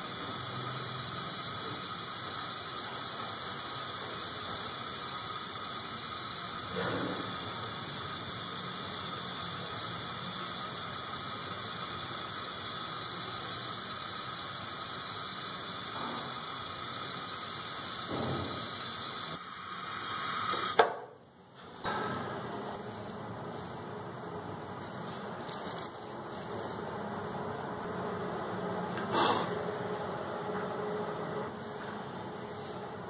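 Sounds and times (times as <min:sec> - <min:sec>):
gas burner flame hissing: 0:00.0 - 0:33.0.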